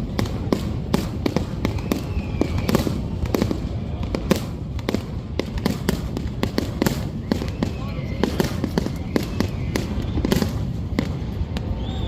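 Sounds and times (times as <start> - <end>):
continuous low rumble: 0.0 - 12.0
fireworks bursting: 0.0 - 12.0.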